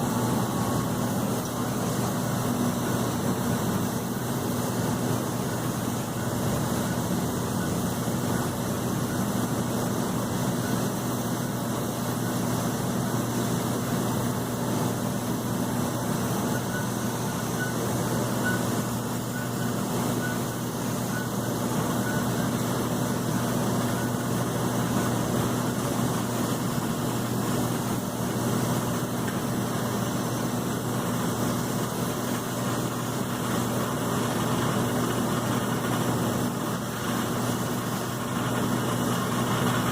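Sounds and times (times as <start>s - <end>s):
airliner idling hum and hiss: 0.0s - 39.9s.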